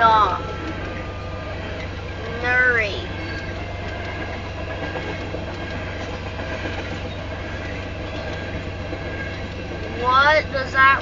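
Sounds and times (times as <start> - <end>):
freight train rolling past: 0.0 - 11.0
wheels clacking on rail: 0.0 - 11.0.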